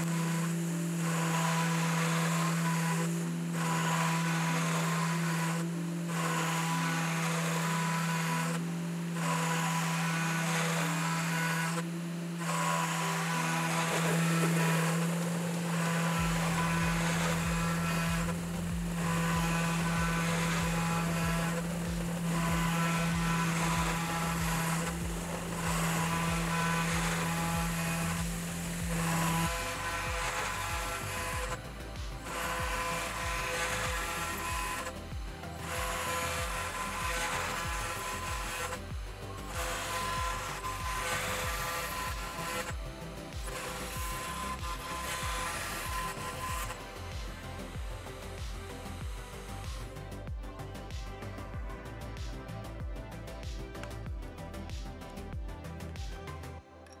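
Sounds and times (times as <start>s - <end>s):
background music with low beat: 0.0s - 57.0s
router spindle motor hum: 0.0s - 57.0s.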